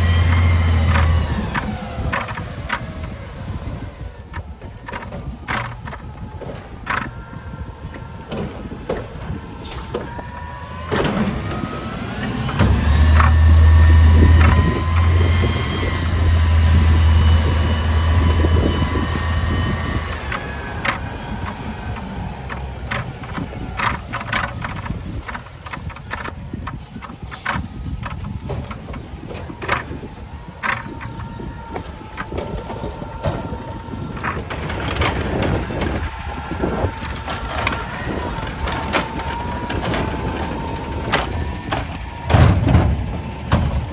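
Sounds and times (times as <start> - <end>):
garbage truck engine: 0.0 - 43.9
hydraulic pump whine: 0.0 - 43.9
knocks and clanks: 0.0 - 43.9.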